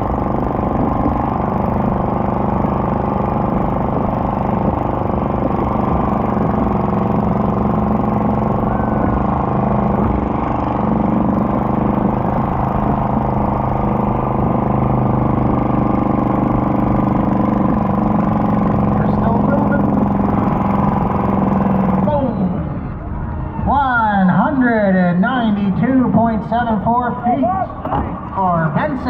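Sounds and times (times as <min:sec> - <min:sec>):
garden tractor engine drone: 0:00.0 - 0:29.0.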